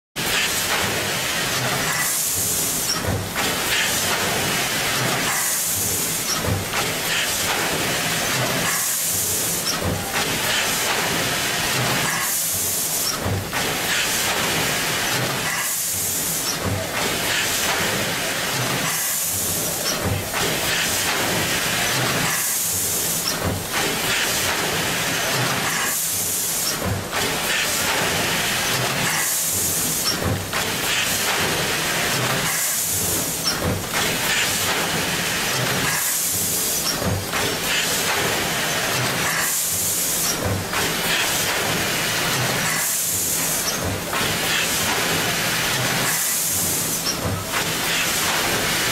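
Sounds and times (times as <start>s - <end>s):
mechanical clatter: 0.2s - 48.9s
pneumatic air hiss: 0.3s - 48.9s.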